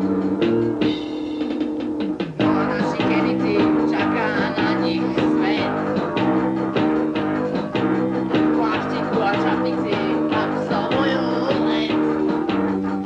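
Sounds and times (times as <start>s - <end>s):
punk band playing: 0.0s - 13.0s.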